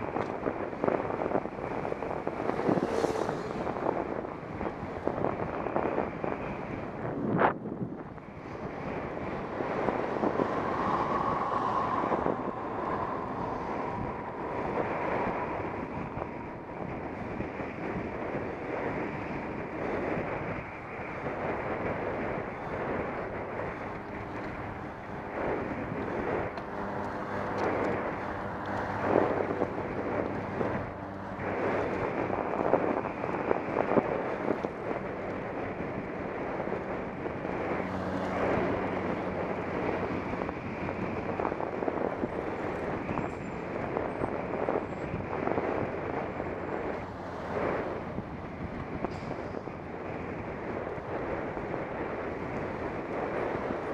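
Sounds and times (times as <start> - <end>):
road noise: 0.0 - 53.9
wind buffeting microphone: 0.0 - 53.9.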